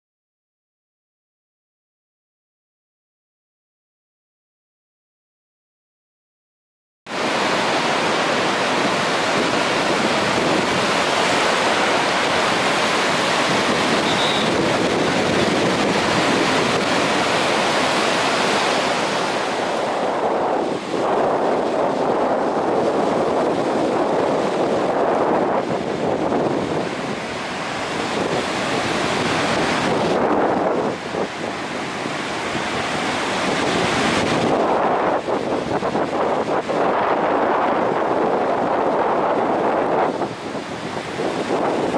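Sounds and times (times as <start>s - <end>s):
ocean surf breaking on beach: 7.1s - 41.9s
wind noise on microphone: 7.1s - 41.9s.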